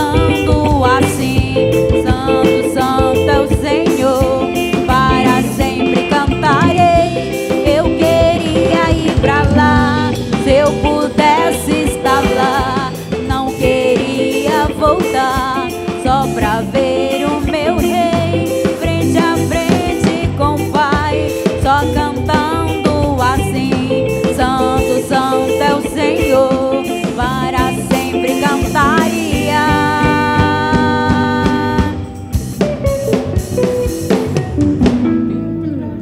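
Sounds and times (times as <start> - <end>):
band playing gospel music: 0.0 - 36.0
drum kit: 0.0 - 36.0.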